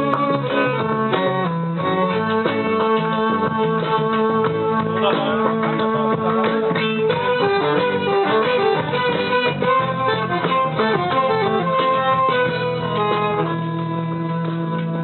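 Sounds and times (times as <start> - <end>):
guitar playing: 0.0 - 15.0
small band playing live: 0.0 - 15.0.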